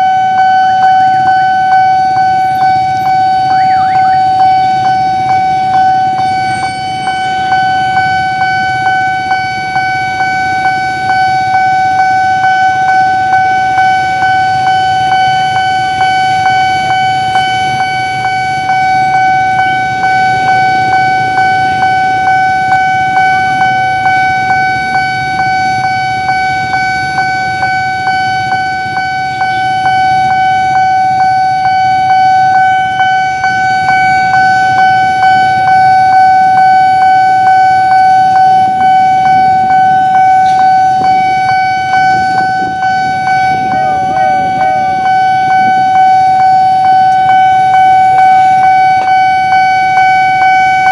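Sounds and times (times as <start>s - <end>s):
level crossing alarm pulsing tone: 0.0s - 50.9s
low traffic rumble: 0.0s - 50.9s.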